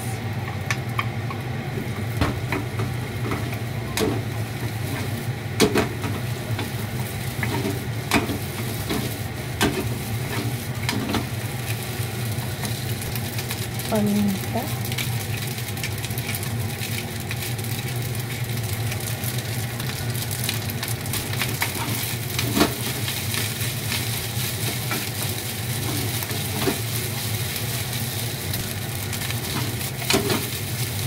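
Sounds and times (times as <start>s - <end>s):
rice and egg sizzling in pan: 0.0s - 31.0s.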